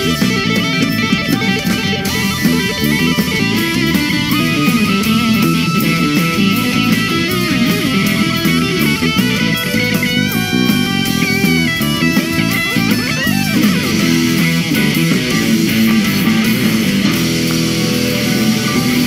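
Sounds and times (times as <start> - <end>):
electric guitar lead: 0.0 - 19.0
keyboard: 0.0 - 19.0
steady drum beat: 0.0 - 19.0.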